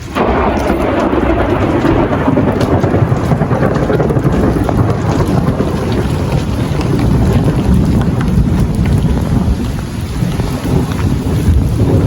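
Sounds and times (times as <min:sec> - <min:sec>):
deep thunder rumble: 0:00.0 - 0:12.0
heavy rain downpour: 0:00.0 - 0:12.0.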